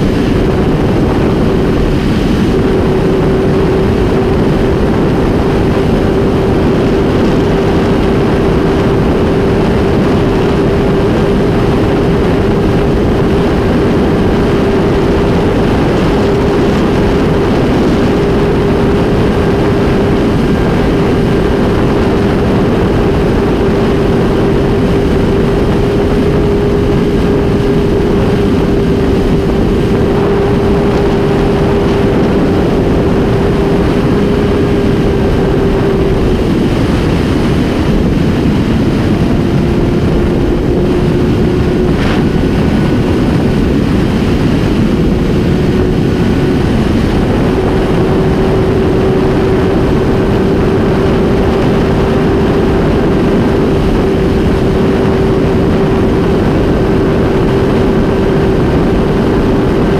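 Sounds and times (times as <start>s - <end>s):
motorcycle engine at high revs: 0.0s - 59.9s
wind rush on microphone: 0.0s - 59.9s.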